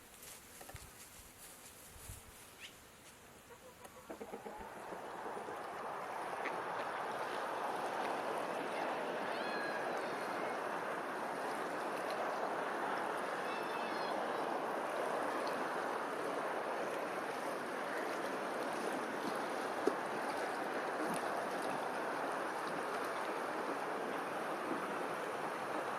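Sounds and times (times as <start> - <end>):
flowing water rushing: 4.0 - 25.9.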